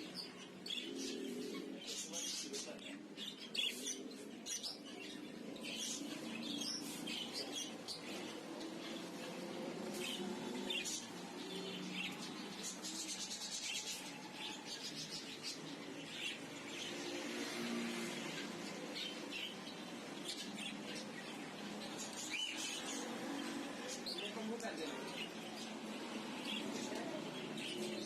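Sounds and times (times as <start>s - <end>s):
caged birds chirping: 0.0s - 28.0s.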